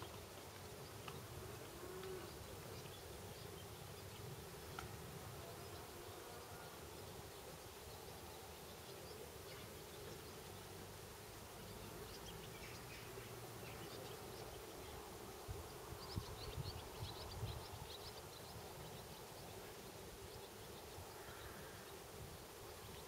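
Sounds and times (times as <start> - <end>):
soft steady outdoor hiss: 0.0 - 23.0.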